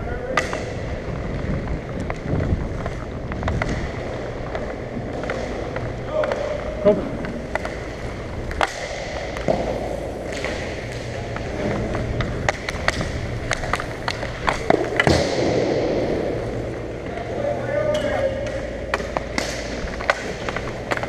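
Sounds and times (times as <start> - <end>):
hockey sticks clacking: 0.1 - 21.0
players rolling and scraping: 0.6 - 21.0.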